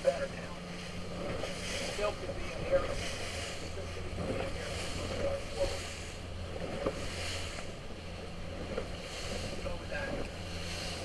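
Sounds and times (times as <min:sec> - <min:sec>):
boat motor humming: 0:00.0 - 0:11.0
water washing against hull: 0:00.0 - 0:11.0
wind buffeting microphone: 0:00.6 - 0:11.0.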